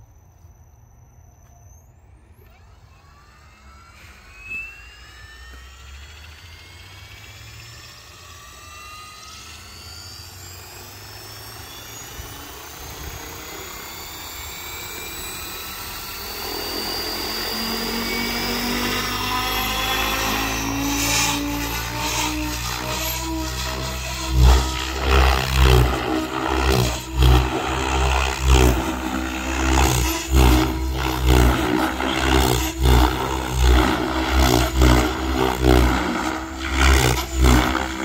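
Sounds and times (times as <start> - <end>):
rc helicopter rotor whine: 0.0 - 38.0.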